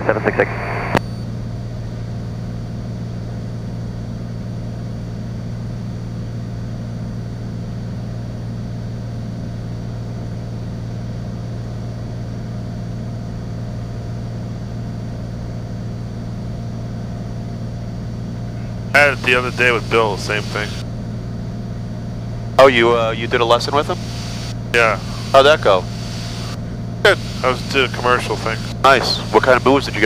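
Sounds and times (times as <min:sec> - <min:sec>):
propeller plane engine droning: 0:00.0 - 0:30.0.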